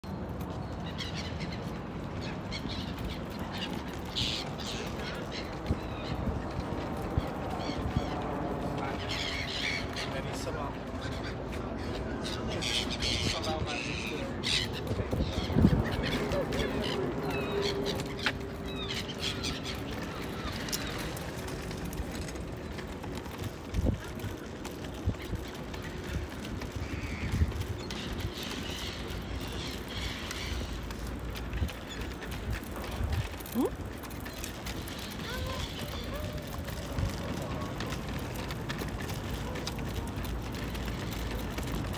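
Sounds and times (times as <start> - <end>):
stroller wheels rolling on bricks: 0.0 - 41.9
small birds chirping: 0.4 - 22.3, 23.4 - 38.4.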